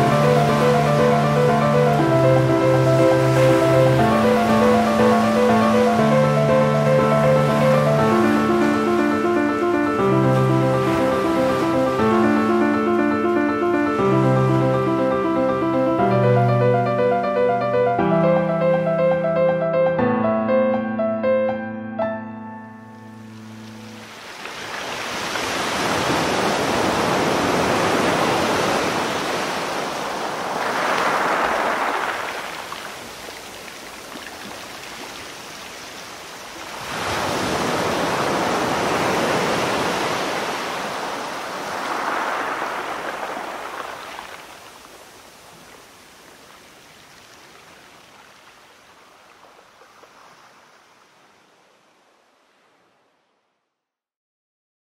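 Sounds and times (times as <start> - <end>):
sea waves washing in: 0.0 - 19.4, 23.2 - 53.1.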